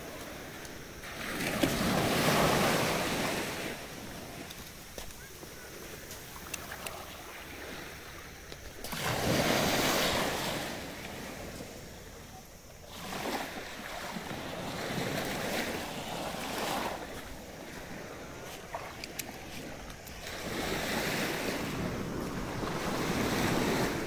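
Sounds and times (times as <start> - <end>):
small waves washing on sand: 0.0 - 24.0.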